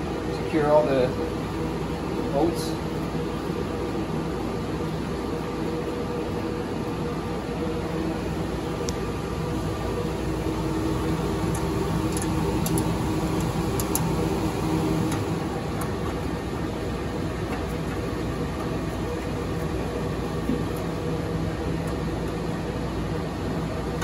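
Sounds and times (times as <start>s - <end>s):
cooling fans whirring: 0.0s - 24.0s
steady tonal hum: 0.0s - 24.0s.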